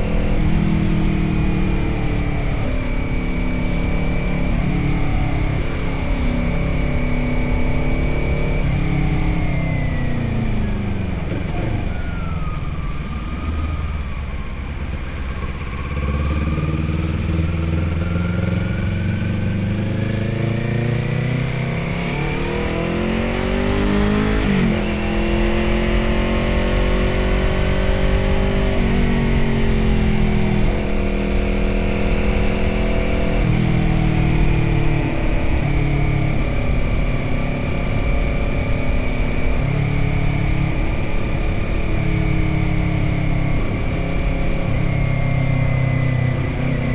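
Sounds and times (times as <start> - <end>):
motorcycle engine revving: 0.0 - 46.9
road rumble: 0.0 - 46.9
wind: 0.0 - 46.9.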